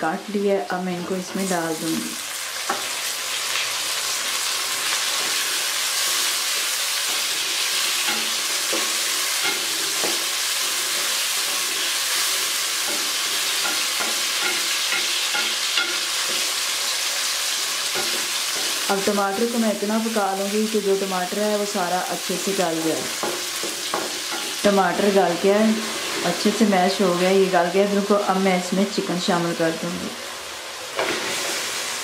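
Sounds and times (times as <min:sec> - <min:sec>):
tomatoes sizzling in hot oil: 0:00.0 - 0:32.0.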